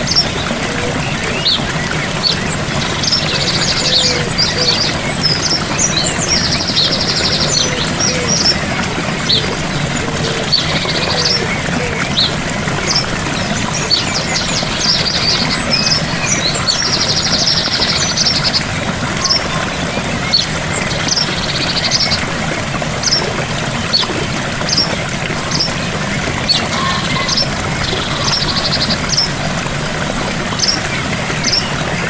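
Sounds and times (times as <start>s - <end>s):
bird singing trills: 0.0s - 22.2s, 23.0s - 29.5s
small waterfall rushing: 0.0s - 32.0s.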